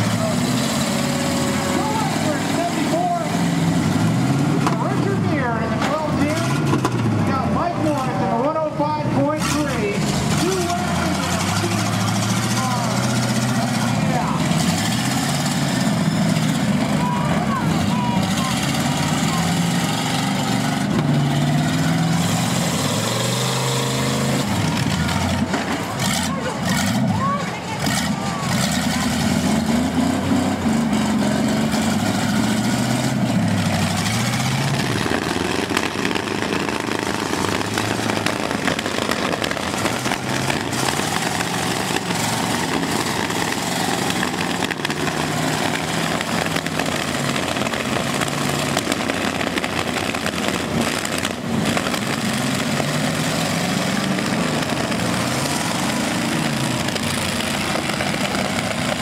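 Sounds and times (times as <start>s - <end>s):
car engines revving: 0.0s - 59.0s
loud noisy background: 0.0s - 59.0s.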